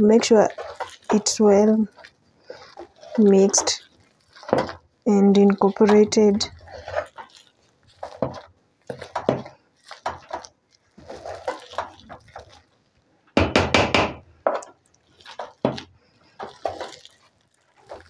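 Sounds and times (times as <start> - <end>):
wooden spoon scraping metal pot: 0.0 - 12.7, 14.5 - 18.0.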